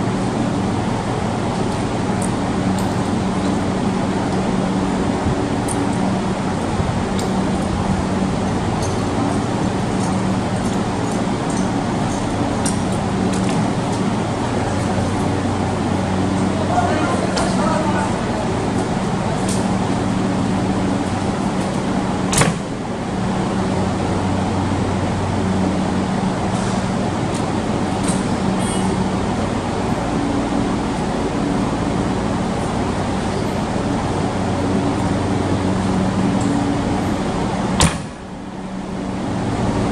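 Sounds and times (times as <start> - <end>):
electric train equipment hum: 0.0 - 39.9.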